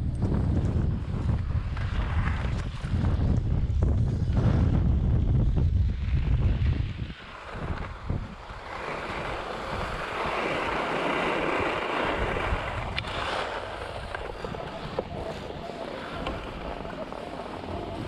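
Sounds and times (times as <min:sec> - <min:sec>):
wind rumbling on microphone: 0:00.0 - 0:18.0
skis scraping over packed snow: 0:00.1 - 0:18.0.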